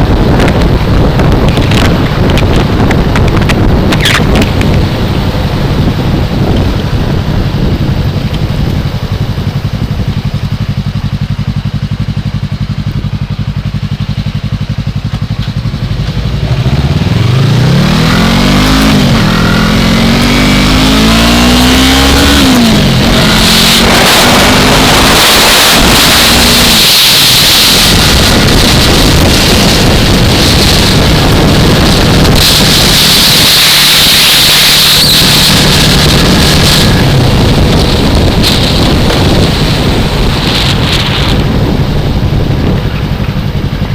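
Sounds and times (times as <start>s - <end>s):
wind rush: 0.0s - 14.0s, 15.9s - 43.9s
motorcycle engine accelerating: 0.0s - 43.9s.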